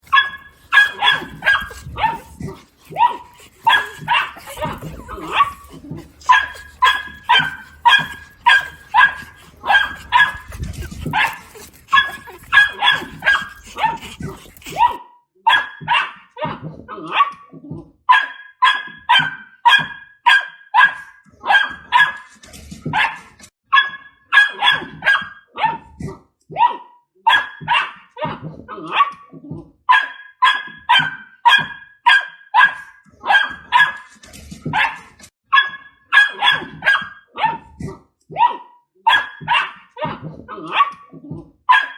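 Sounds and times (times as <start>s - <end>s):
dog barking: 0.0s - 17.4s, 18.1s - 22.3s, 23.8s - 25.8s, 26.6s - 29.2s, 29.9s - 34.1s, 34.7s - 37.7s, 38.4s - 41.0s, 41.7s - 41.9s.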